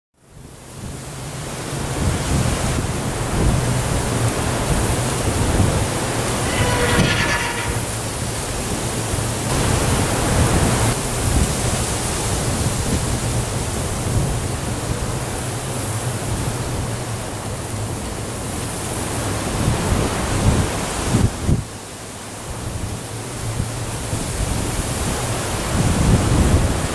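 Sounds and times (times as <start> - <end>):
wind buffeting microphone: 0.3 - 26.9.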